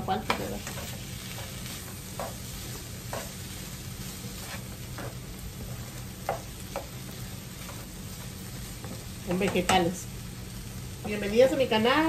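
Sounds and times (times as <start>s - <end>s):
meat sizzling in a skillet: 0.0s - 12.0s
spatula scraping and tapping pan: 0.2s - 9.9s.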